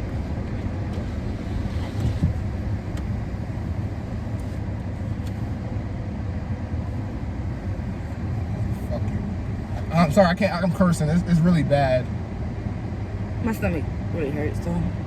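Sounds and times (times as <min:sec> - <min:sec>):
car engine from inside cabin: 0:00.0 - 0:15.0
road noise: 0:00.0 - 0:15.0.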